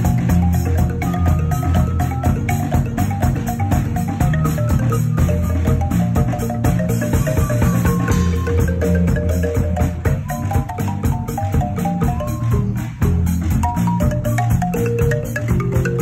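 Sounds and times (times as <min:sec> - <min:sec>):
deep bass notes: 0:00.0 - 0:16.0
drum kit beat: 0:00.0 - 0:16.0
marimba melody: 0:00.0 - 0:16.0.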